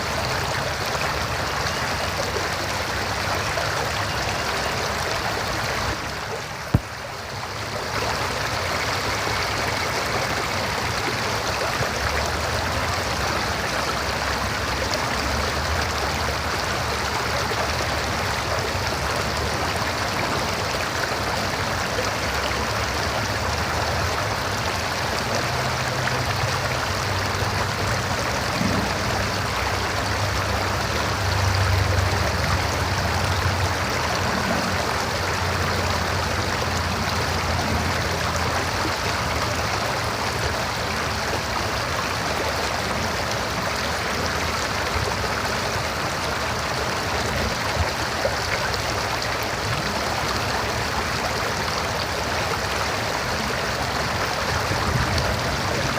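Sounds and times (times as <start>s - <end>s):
river water rushing over rocks: 0.0s - 55.9s.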